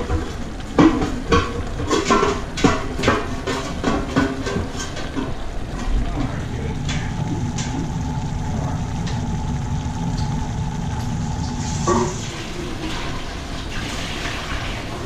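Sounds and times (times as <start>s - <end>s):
light crackle: 0.0s - 15.0s
water pouring off: 0.0s - 15.0s.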